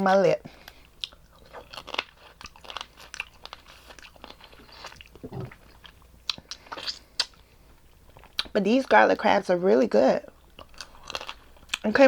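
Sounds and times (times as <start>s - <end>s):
crunching and chewing: 0.5s - 8.6s, 10.3s - 12.0s.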